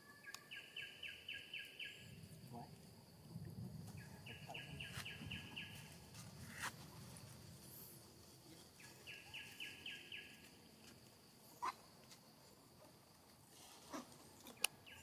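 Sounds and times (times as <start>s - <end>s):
bird or insect chirping: 0.0s - 15.0s.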